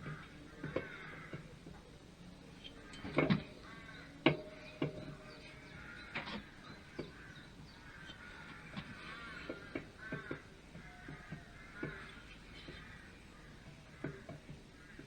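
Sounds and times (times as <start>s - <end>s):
birds cawing: 0.0s - 15.0s.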